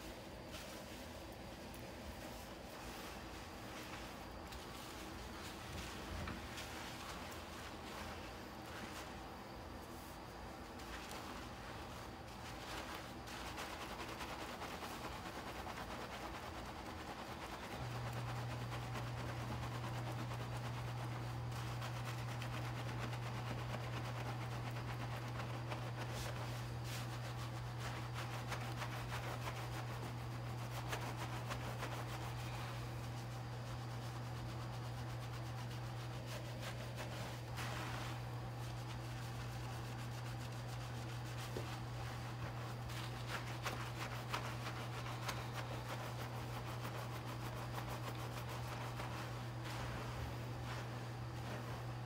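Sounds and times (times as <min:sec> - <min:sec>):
hands scrubbing wet hair: 0:00.0 - 0:52.0
steady low hum: 0:00.0 - 0:52.0.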